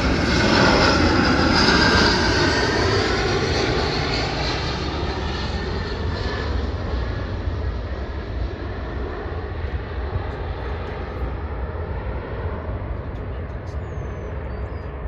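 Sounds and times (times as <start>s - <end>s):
airplane engine rushing: 0.0s - 15.0s.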